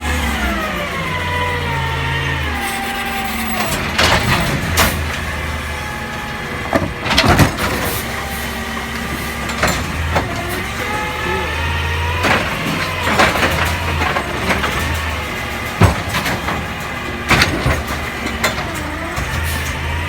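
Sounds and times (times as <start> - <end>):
garbage truck engine running: 0.0 - 20.0
loud clanks and bangs: 3.4 - 20.0.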